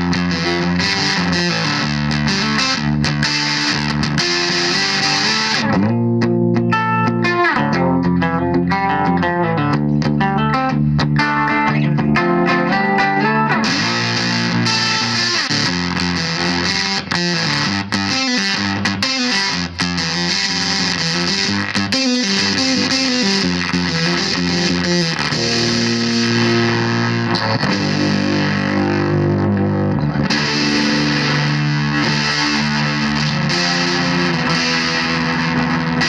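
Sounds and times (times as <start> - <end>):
fuzz electric guitar riffs: 0.0 - 36.0.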